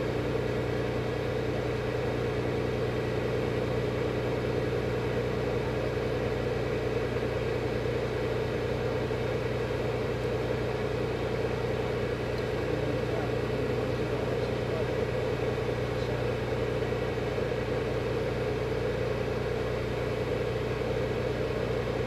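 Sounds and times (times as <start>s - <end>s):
light aircraft engine drone: 0.0s - 22.0s.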